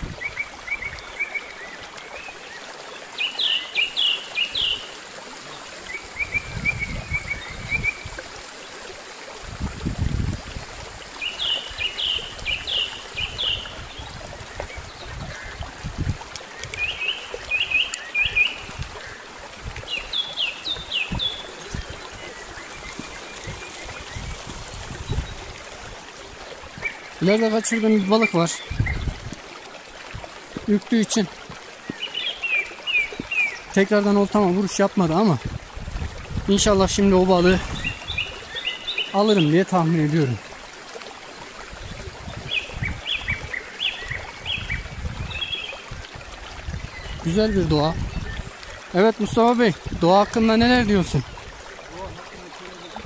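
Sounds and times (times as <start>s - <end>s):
songbird singing: 0.0s - 8.8s, 10.2s - 29.3s, 30.2s - 35.4s, 36.5s - 40.6s, 41.6s - 53.0s
stream trickling over stones: 0.0s - 53.0s.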